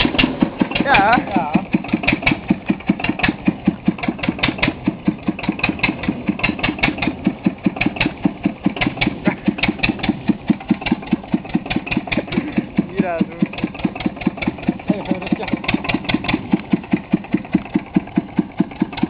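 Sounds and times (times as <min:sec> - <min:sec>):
single-cylinder engine chugging: 0:00.0 - 0:19.0.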